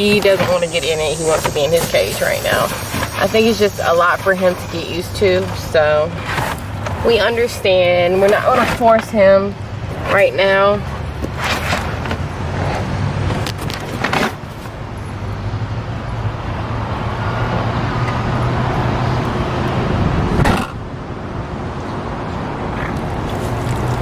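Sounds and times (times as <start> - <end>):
car running with low hum: 0.0 - 24.0.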